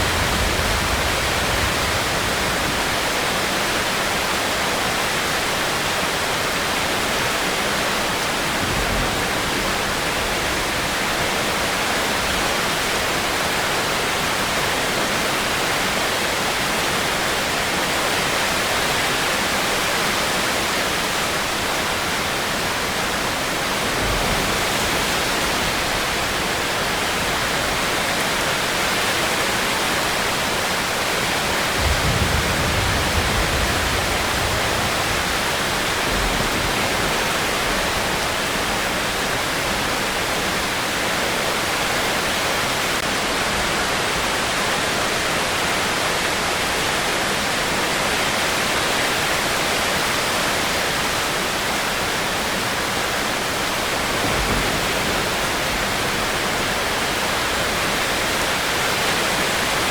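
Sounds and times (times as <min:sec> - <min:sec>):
heavy rainfall hiss: 0:00.0 - 0:59.9.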